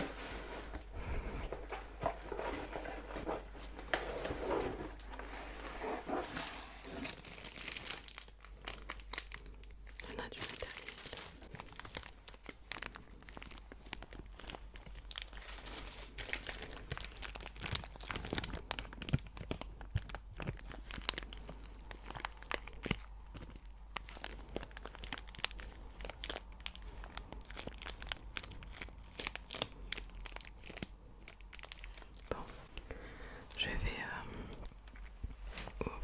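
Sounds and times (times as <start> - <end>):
packaging crinkling and tearing: 0.0 - 32.9.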